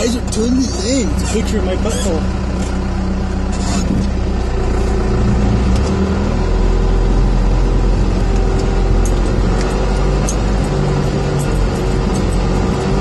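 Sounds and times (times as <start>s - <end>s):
diesel truck engine: 0.0s - 13.0s.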